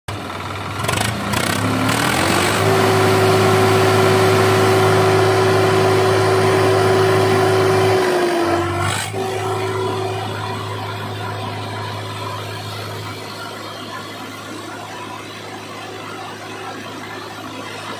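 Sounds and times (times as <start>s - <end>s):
tractor diesel engine revving: 0.1s - 17.5s.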